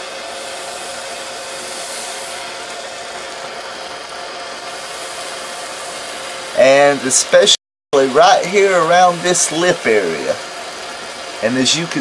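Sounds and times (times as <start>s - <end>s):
torch flame hissing: 0.0s - 12.0s.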